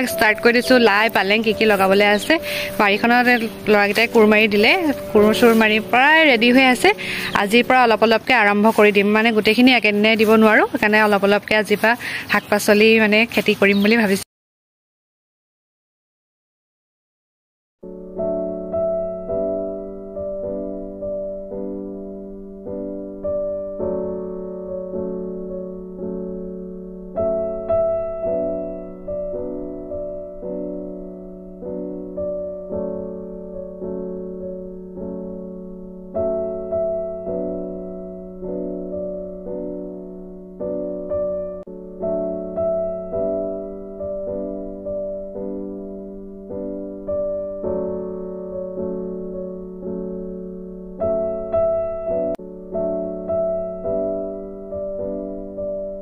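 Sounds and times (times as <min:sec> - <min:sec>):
gentle piano music: 0:00.0 - 0:14.2, 0:17.8 - 0:56.0.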